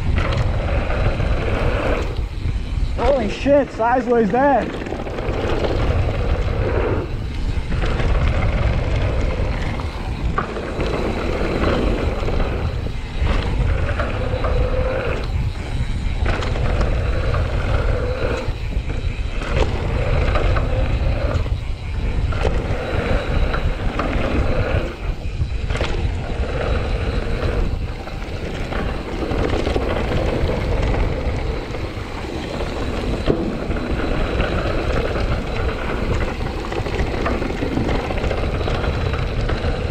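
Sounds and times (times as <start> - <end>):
bike knocking and rattling: 0.0 - 39.9
tyres rumbling on dirt: 0.0 - 39.9
wind buffeting microphone: 0.0 - 39.9.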